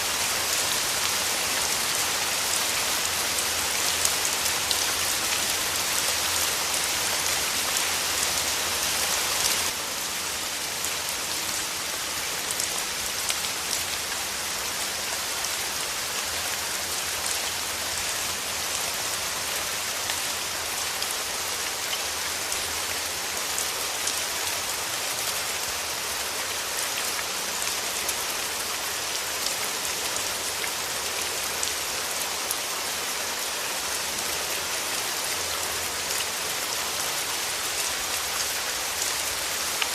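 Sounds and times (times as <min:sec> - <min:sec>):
rain drops ticking on surface: 0:00.0 - 0:39.9.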